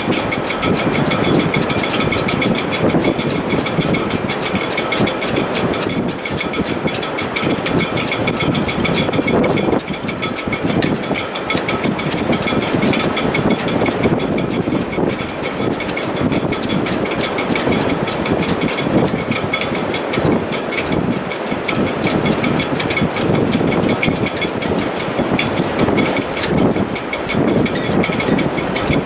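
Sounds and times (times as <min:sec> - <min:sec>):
shrouds whistling in wind: 0:00.0 - 0:29.0.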